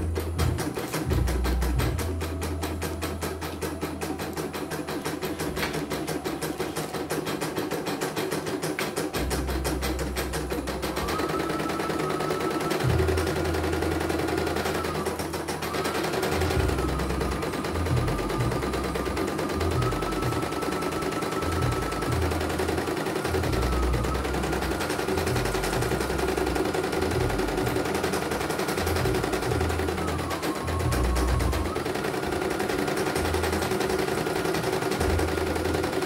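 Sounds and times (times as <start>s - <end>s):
embroidery machine needle clatter: 0.0s - 36.0s.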